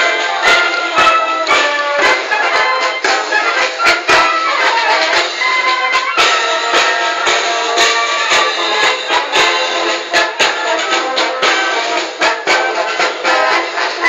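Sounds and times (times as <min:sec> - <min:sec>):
brass band playing a march: 0:00.0 - 0:14.0
drum beats: 0:00.0 - 0:14.0.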